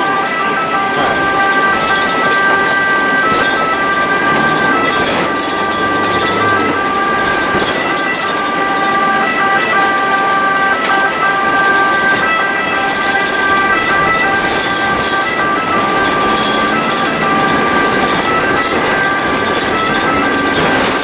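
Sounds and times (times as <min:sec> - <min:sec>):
two-tone ambulance siren: 0:00.0 - 0:21.0.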